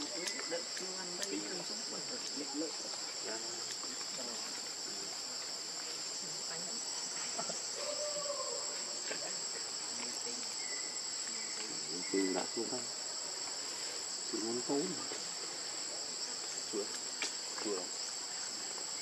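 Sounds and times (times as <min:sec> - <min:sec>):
shrill insect chorus: 0:00.0 - 0:19.0.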